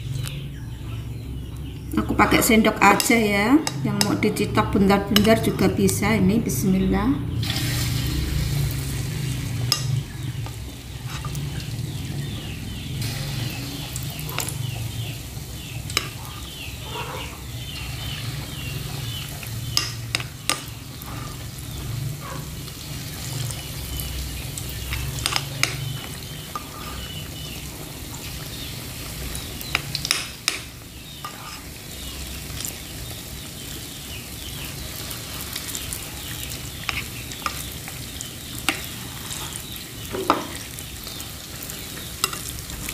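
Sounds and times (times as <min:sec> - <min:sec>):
dough deep-frying in oil: 0:07.2 - 0:42.9.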